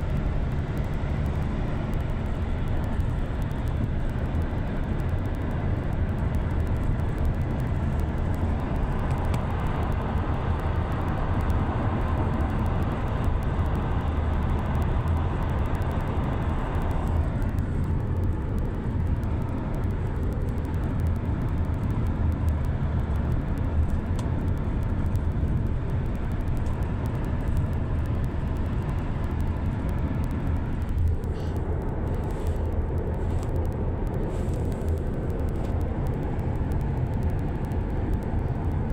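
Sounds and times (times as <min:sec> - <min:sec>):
engine and road rumble: 0:00.0 - 0:38.9.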